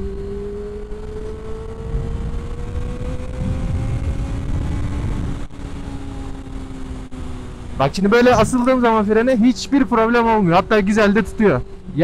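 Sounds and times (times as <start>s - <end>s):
motorcycle engine accelerating: 0.0s - 12.0s
wind and road noise: 0.0s - 12.0s.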